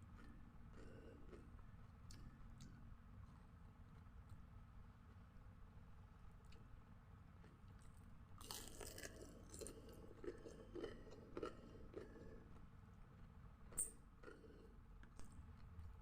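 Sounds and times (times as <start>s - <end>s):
chewing crunchy food: 0.0s - 4.5s, 6.3s - 16.0s.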